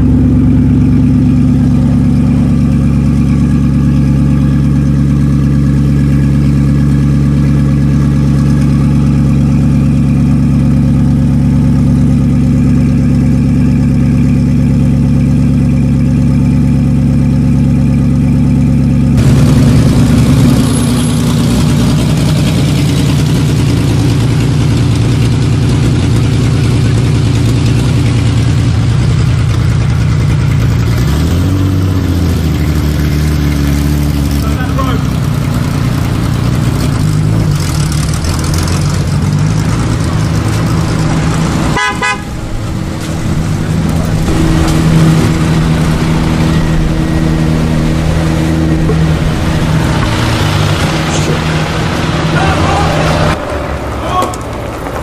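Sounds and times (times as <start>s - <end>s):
car engine driving on road: 0.0s - 55.0s
car engine idling: 0.0s - 55.0s.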